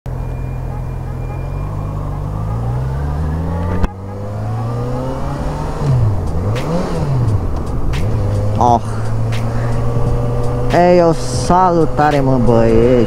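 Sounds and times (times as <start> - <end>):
motorcycle engine accelerating: 0.1 - 13.0.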